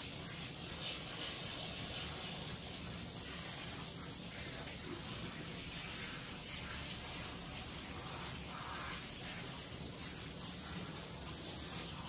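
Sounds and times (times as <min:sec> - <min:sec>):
water spraying from sprayer: 0:00.0 - 0:12.0.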